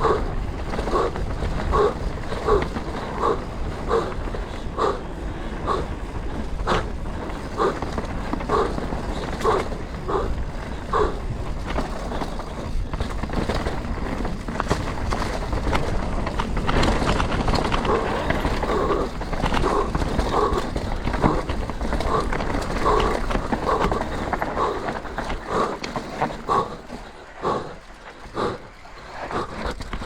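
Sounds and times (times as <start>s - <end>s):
bike frame and chain rattling: 0.0s - 30.0s
bike tyres crunching over dirt: 0.0s - 30.0s
rider huffing: 0.0s - 30.0s
wind rumble on microphone: 0.0s - 30.0s.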